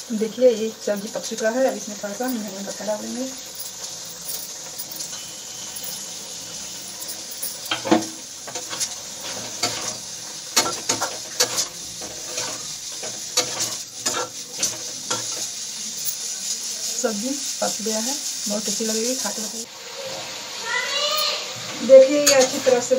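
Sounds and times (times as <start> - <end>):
pan sizzling: 0.0 - 22.9
metal spatula scraping a pan: 1.0 - 20.4, 21.4 - 22.9.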